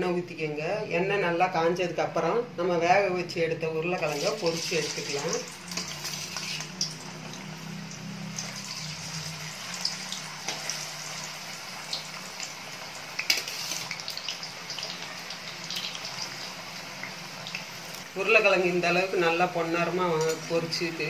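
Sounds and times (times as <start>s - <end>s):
potatoes deep-frying in oil: 0.0s - 21.0s.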